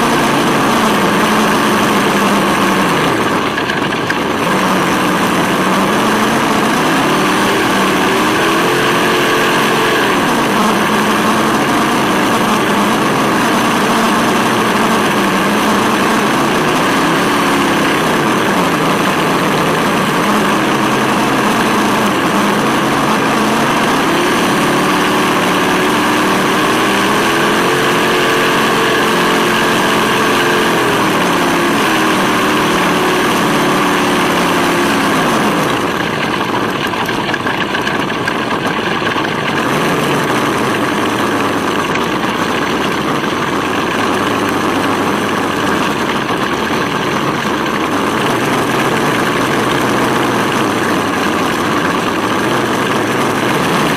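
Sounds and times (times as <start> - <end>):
simulated engine revving: 0.0 - 53.9
steady rushing noise: 0.0 - 53.9.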